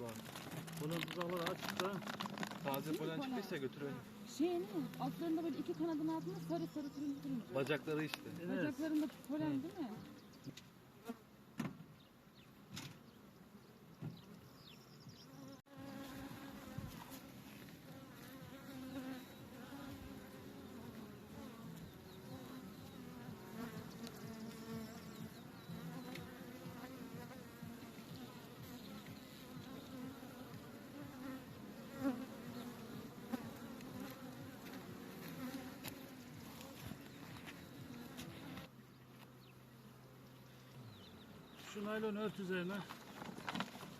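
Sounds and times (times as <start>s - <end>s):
bees buzzing: 0.0s - 11.3s, 13.7s - 43.9s.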